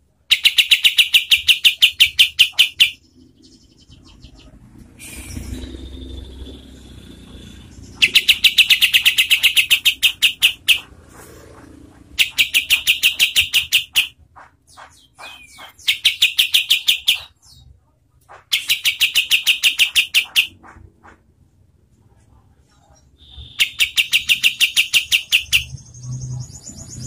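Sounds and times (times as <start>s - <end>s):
bird rapid chattering call: 0.3s - 17.6s, 18.3s - 21.2s, 23.2s - 26.9s.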